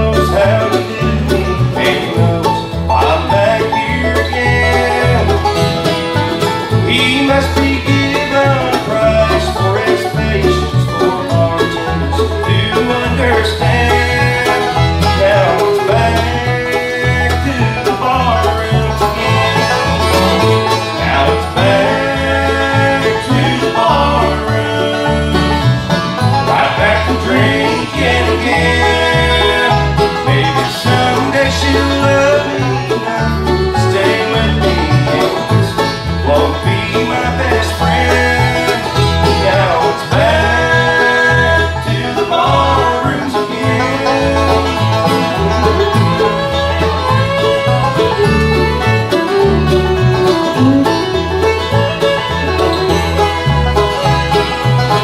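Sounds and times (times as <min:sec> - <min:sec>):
acoustic guitar: 0:00.0 - 0:55.0
banjo: 0:00.0 - 0:55.0
fiddle: 0:00.0 - 0:55.0
mandolin: 0:00.0 - 0:55.0
upright bass line: 0:00.0 - 0:55.0.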